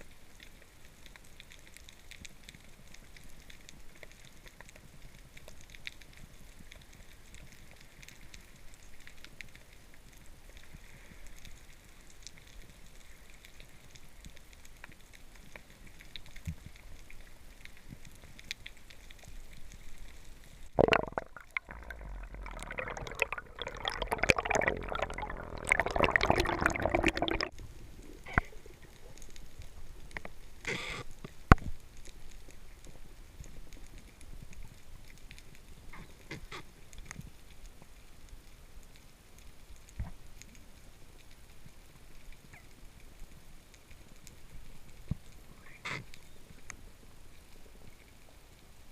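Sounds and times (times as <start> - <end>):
faint crackling ticks: 0.0 - 26.0, 26.9 - 48.9
underwater bubbling and gurgling: 0.0 - 48.9.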